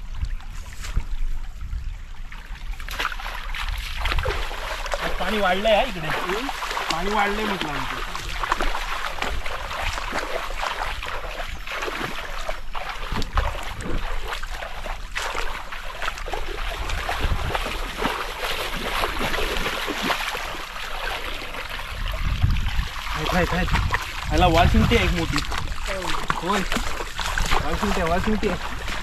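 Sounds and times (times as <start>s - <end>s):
muddy water splashing: 0.0s - 29.0s.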